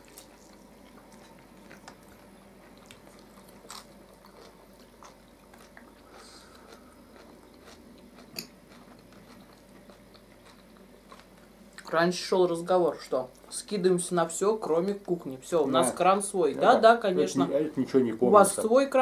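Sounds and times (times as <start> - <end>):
people chewing and eating: 0.0 - 18.6.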